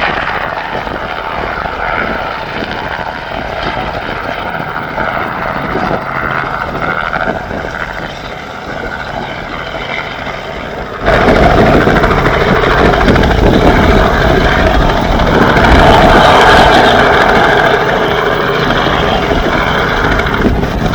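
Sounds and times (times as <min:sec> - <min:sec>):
helicopter engine and rotors: 0:00.0 - 0:20.9.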